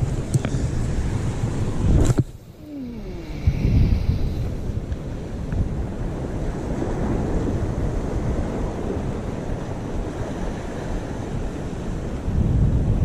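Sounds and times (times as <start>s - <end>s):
surf washing around rocks: 0.0s - 13.0s
wind rumbling on microphone: 0.0s - 13.0s.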